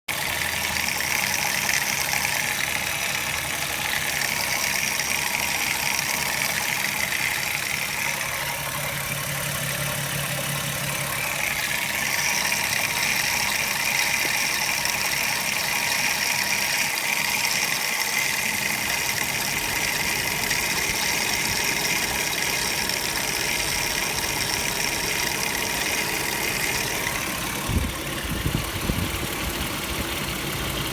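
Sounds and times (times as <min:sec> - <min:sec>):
car engine idling: 0:00.1 - 0:30.9
rapid clicking: 0:00.1 - 0:30.9.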